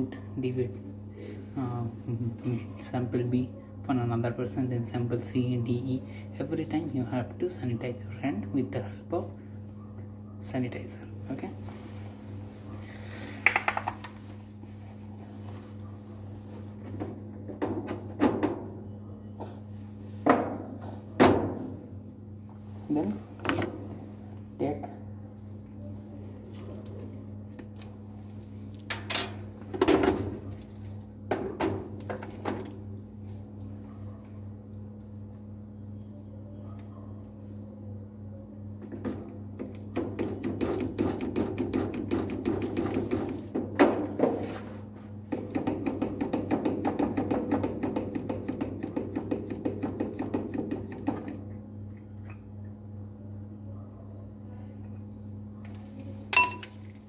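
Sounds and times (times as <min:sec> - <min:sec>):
blower hum: 0:00.0 - 0:57.0.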